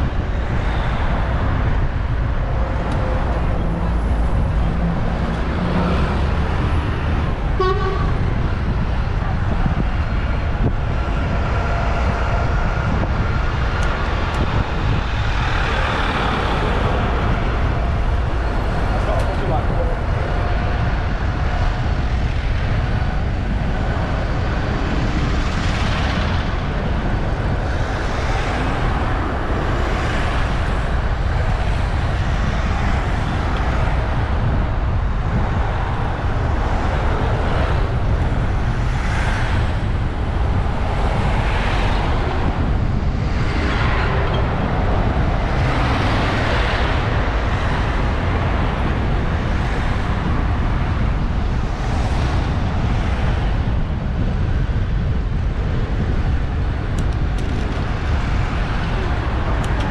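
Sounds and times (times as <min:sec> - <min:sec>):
vehicles whooshing past: 0:00.0 - 0:59.9
wind rumbling on microphone: 0:00.0 - 0:59.9.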